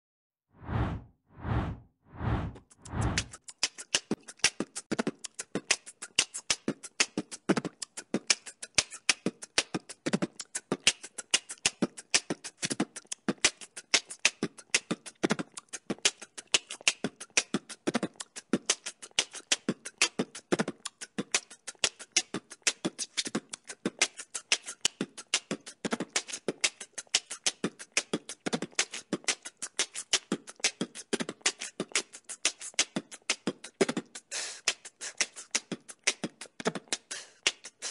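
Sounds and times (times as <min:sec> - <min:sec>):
beatbox-style percussion beat: 0:02.6 - 0:37.9.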